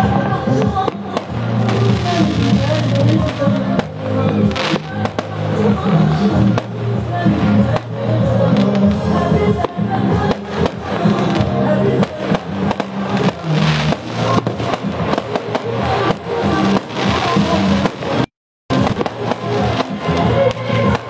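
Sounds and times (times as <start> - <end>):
fireworks bangs and crackling: 0.0 - 21.0
music with bass line: 0.0 - 21.0.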